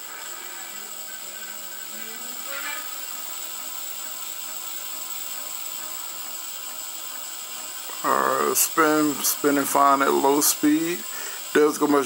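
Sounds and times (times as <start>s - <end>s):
hub motor whirring: 0.0s - 12.0s.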